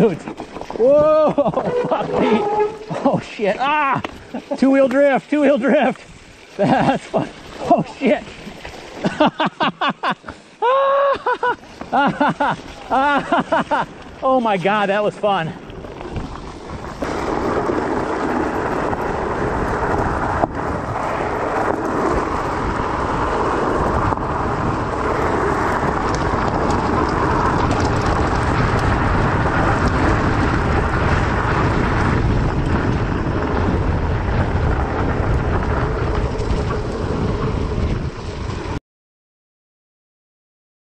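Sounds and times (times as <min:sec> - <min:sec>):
wind buffeting microphone: 0:00.0 - 0:09.2, 0:12.0 - 0:38.8
bike tyres rolling on gravel: 0:00.0 - 0:38.8.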